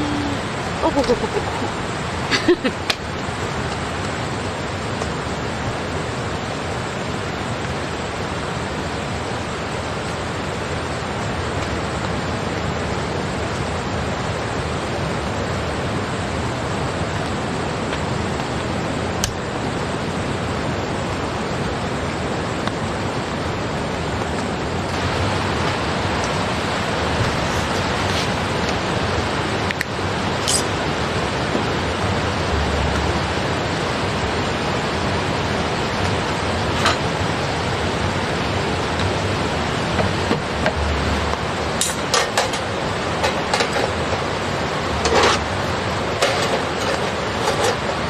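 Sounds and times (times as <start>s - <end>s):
water rushing: 0.0s - 48.0s.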